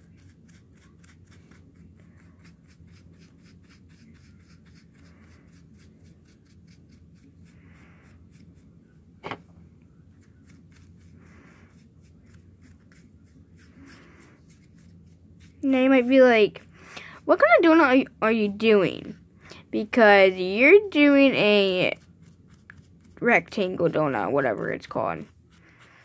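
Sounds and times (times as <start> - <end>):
paintbrush strokes on plastic: 0.0 - 8.8, 9.9 - 16.8, 20.7 - 26.0
low room hum: 0.0 - 26.0.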